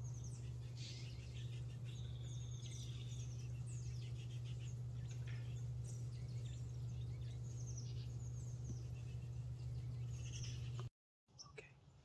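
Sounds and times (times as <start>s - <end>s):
steady low hum: 0.0s - 10.9s
small birds chirping: 0.0s - 12.0s.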